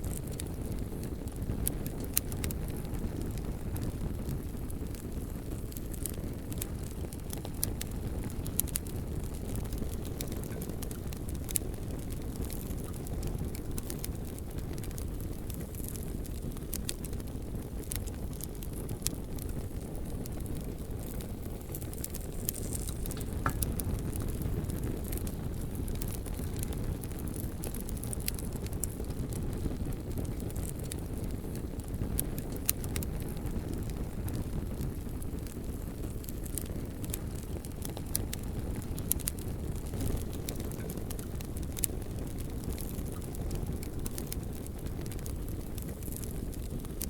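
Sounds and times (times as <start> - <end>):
bonfire low rumble: 0.0 - 47.0
logs crackling and popping: 0.0 - 47.0.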